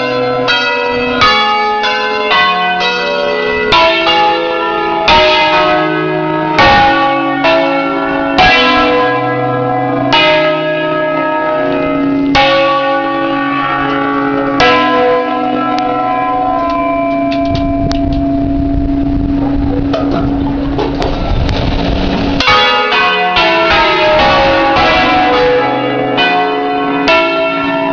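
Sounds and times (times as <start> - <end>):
bells ringing hum: 0.0 - 21.1, 22.0 - 27.9
church bells striking: 0.0 - 27.9.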